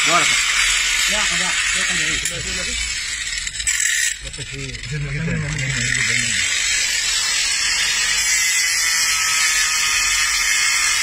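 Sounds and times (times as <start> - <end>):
angle grinder cutting bone: 0.0 - 11.0.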